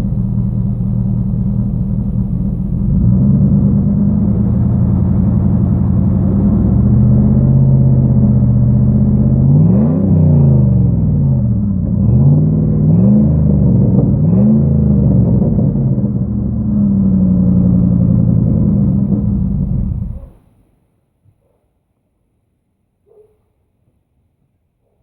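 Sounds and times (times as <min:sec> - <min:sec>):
truck engine idling and revving: 0:00.0 - 0:20.5.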